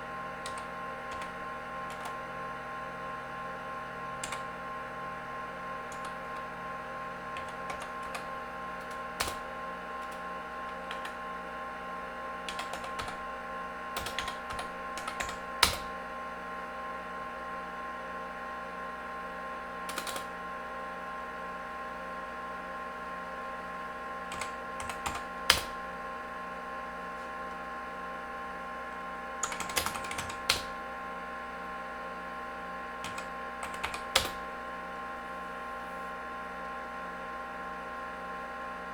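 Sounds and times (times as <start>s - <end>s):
computer fan and disk whine: 0.0s - 38.9s.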